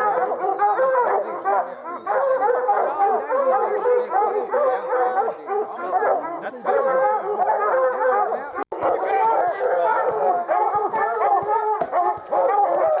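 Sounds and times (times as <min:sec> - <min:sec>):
hounds baying and barking: 0:00.0 - 0:13.0.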